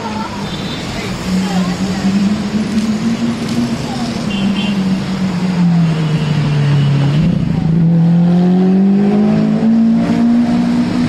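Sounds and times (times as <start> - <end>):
car engine accelerating: 1.2 - 11.0.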